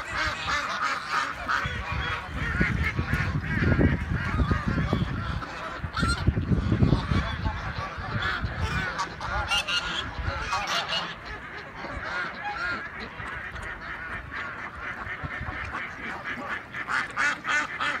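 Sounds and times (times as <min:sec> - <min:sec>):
ducks quacking: 0:00.0 - 0:18.0
geese honking: 0:00.0 - 0:18.0.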